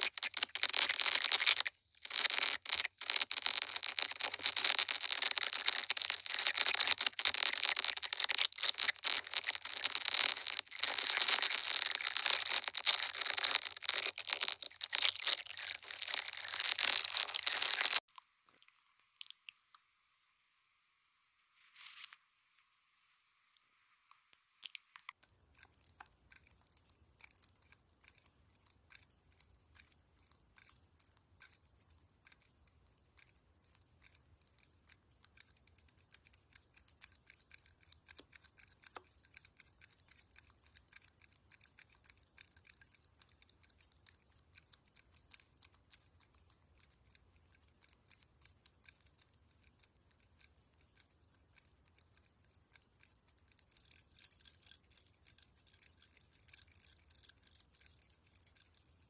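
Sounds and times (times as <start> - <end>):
rapid crisp clicking: 0.0 - 19.6, 24.3 - 59.0.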